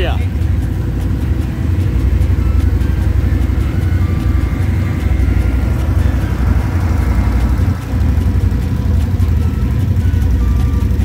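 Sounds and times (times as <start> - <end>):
utility vehicle engine rumbling: 0.0 - 11.0.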